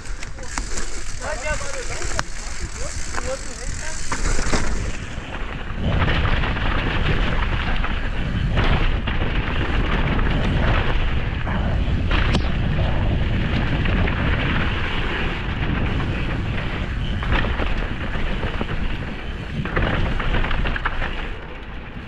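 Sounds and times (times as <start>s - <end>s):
bike knocks and rattles: 0.0s - 22.0s
wind buffeting microphone: 0.0s - 22.0s.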